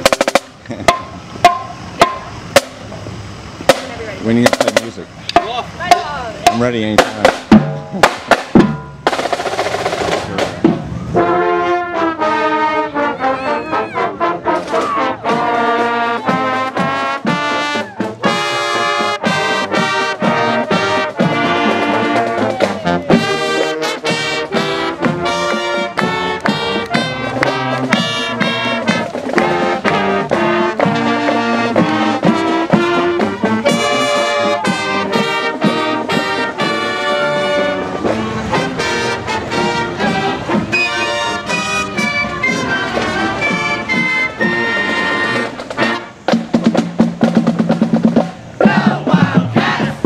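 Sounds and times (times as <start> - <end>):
marching drums: 0.0 - 50.0
brass section playing a tune: 3.7 - 50.0.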